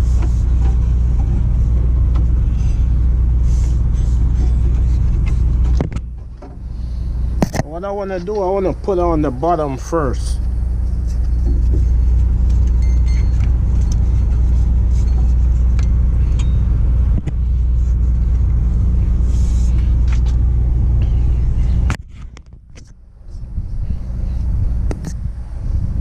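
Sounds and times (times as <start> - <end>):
engine idling rumble: 0.0 - 26.0.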